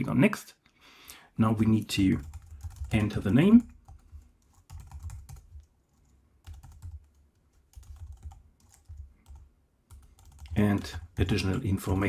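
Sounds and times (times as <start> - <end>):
computer keyboard typing: 2.1 - 12.0.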